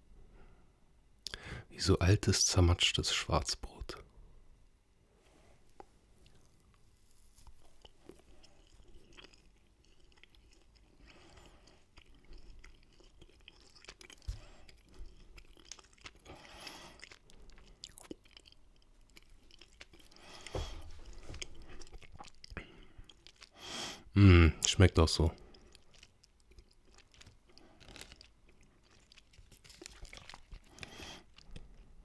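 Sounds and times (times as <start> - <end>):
person chewing with crunches: 5.6 - 32.0.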